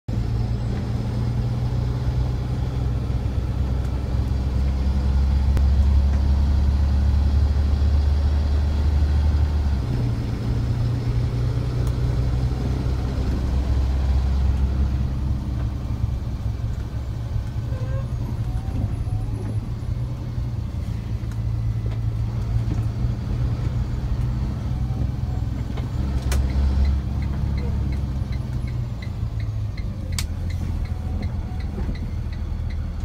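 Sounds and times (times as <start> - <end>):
car engine and road rumble: 0.1 - 33.0.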